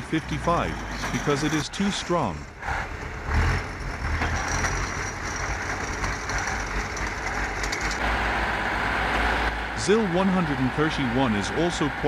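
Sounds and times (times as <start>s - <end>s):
heavy vehicle engines under load: 0.0s - 12.0s.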